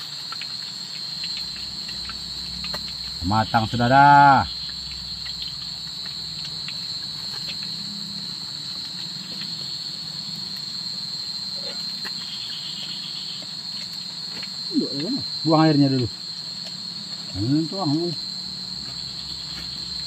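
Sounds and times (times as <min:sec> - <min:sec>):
night insects droning: 0:00.0 - 0:20.0.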